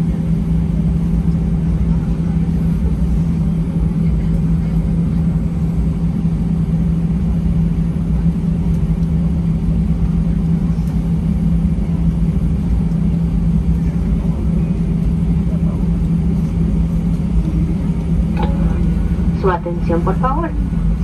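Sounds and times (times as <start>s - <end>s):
aircraft cabin rumble: 0.0s - 21.0s
engines idling and air conditioning hum: 0.0s - 21.0s.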